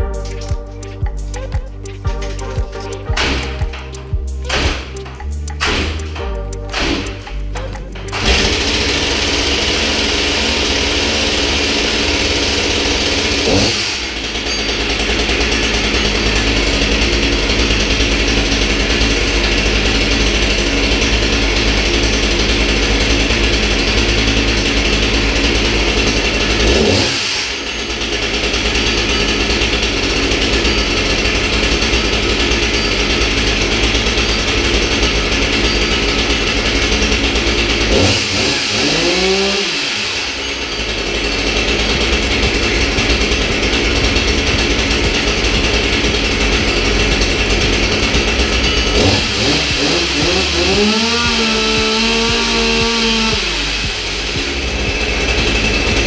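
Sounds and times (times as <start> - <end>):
chainsaw engine idling and revving: 0.0 - 56.0.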